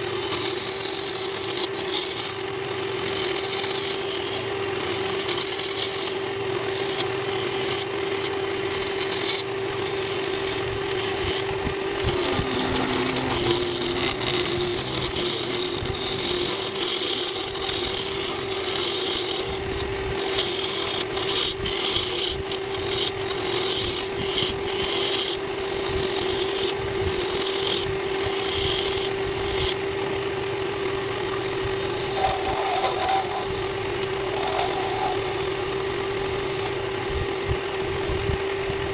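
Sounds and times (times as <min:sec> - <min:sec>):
tool scraping wood: 0:00.0 - 0:37.6
power tool humming: 0:00.0 - 0:38.9.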